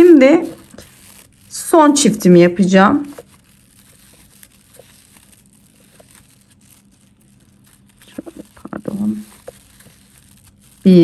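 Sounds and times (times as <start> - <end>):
paper yarn crinkling: 0.0 - 11.0.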